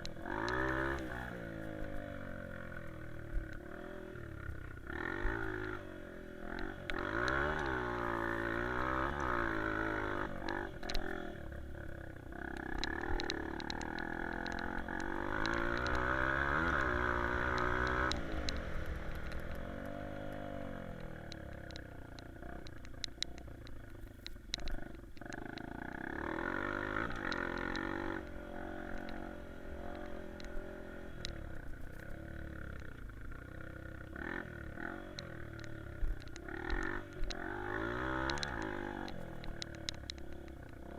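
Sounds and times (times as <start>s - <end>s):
dirt bike engine revving: 0.0s - 23.2s, 24.7s - 40.9s
stones ticking and rattles: 0.0s - 40.9s.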